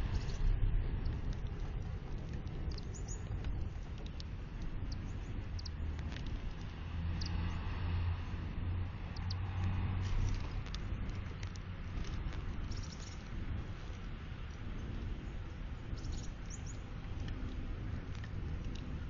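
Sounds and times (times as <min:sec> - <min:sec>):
birds ticking and tapping: 0:00.0 - 0:19.0
steady low hum: 0:00.0 - 0:19.0.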